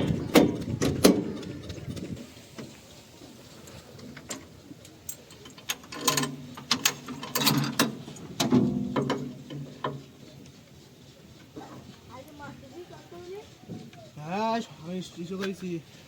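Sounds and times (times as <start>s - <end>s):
machinery clanking and rattling: 0.0s - 2.8s, 3.9s - 14.2s.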